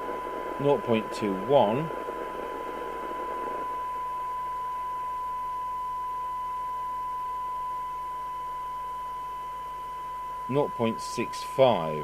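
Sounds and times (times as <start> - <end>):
steady test tone: 0.0 - 12.0.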